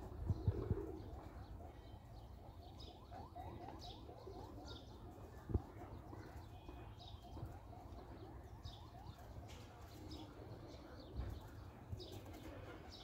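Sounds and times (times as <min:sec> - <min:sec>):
pigeons cooing: 0:00.0 - 0:13.0
small birds chirping: 0:00.0 - 0:13.0.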